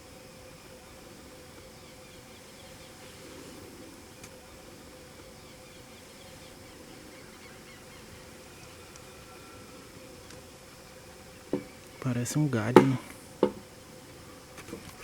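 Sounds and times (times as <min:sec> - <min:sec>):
small birds chirping softly: 0:00.0 - 0:15.0
steady low hum: 0:00.0 - 0:15.0.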